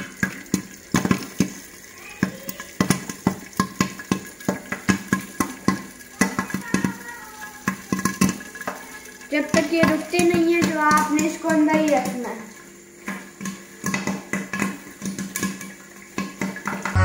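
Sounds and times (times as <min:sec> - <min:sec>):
corn kernels popping: 0:00.0 - 0:17.0
faint sizzle of frying: 0:00.0 - 0:17.0.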